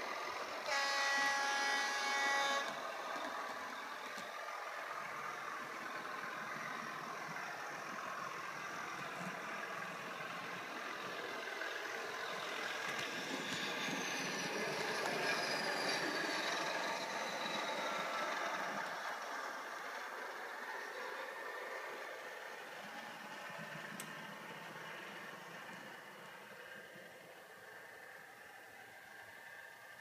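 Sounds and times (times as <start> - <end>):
model diesel engine sound: 0.0 - 29.7.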